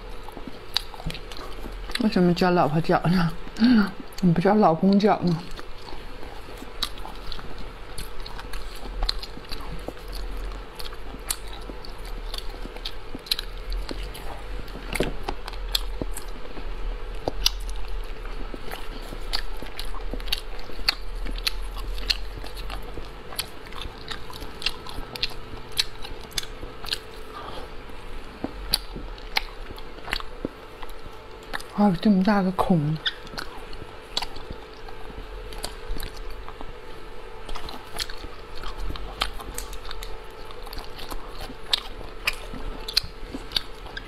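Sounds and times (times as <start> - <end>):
wet chewing mouth clicks: 0.0 - 2.2, 4.9 - 32.0, 33.0 - 44.0
faint steady hum: 0.0 - 44.0.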